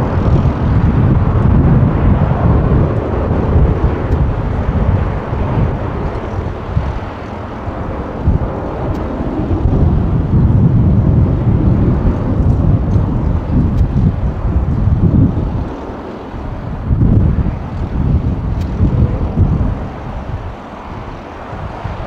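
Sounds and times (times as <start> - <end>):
jet engines roaring: 0.0 - 22.0
wind buffeting microphone: 0.0 - 22.0.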